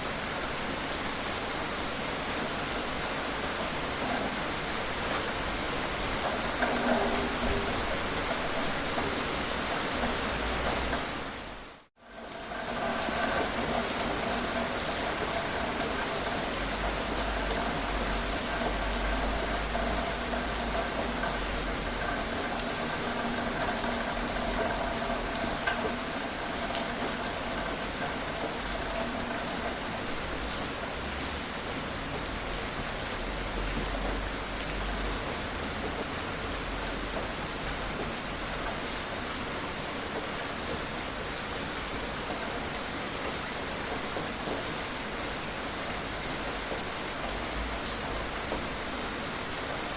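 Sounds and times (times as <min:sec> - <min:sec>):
steady rain falling: 0:00.0 - 0:49.9
raindrops ticking on a surface: 0:00.2 - 0:49.9.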